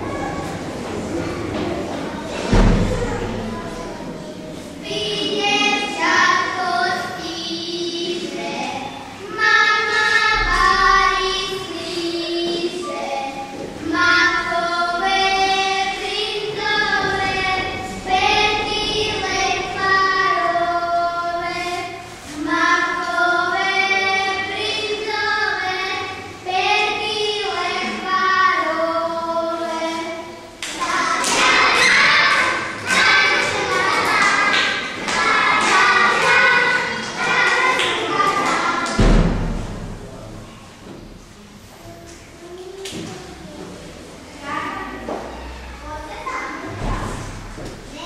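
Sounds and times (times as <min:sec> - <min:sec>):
girls singing together: 0:00.0 - 0:39.9.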